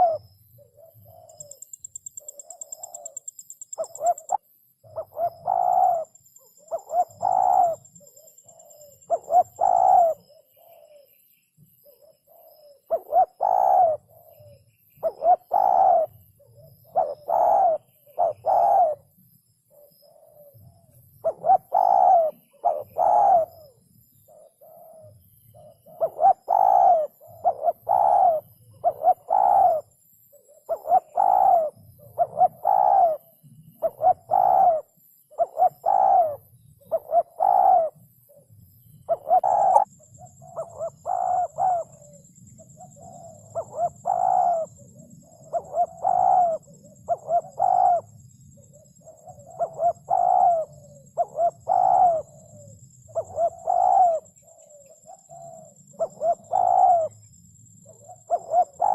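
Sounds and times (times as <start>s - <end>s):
dove cooing: 0.0s - 11.2s, 11.8s - 58.9s.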